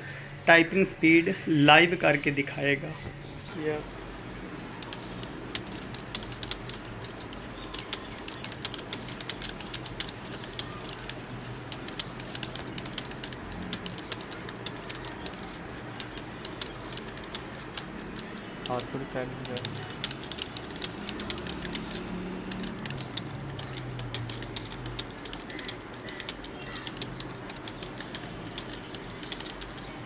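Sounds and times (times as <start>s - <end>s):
fast keyboard typing: 3.5s - 30.0s.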